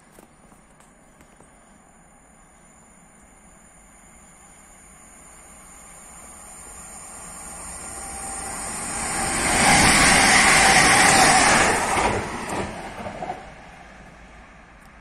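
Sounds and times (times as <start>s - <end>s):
train passing at speed: 1.8s - 15.0s.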